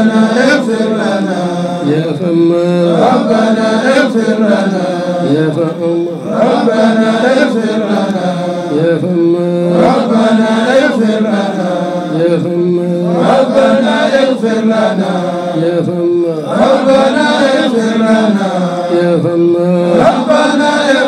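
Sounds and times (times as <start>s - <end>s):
person chanting melodically: 0.0s - 21.0s.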